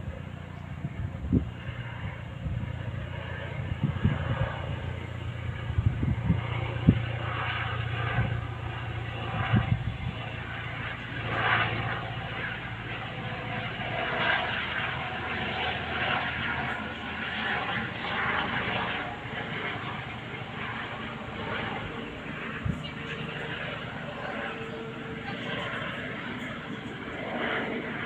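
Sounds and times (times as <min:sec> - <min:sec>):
helicopter flying overhead: 0:00.0 - 0:28.0.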